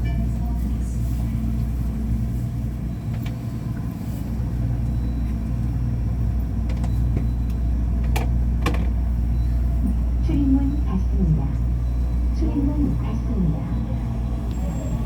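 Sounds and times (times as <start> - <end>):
light-rail car rumble and hum: 0.0 - 15.0.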